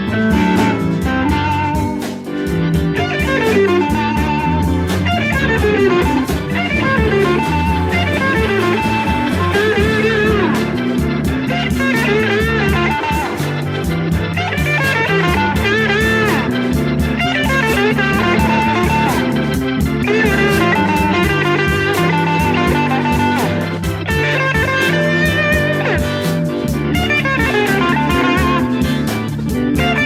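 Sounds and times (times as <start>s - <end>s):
bass line: 0.0s - 30.0s
electric blues guitar lead: 0.0s - 30.0s.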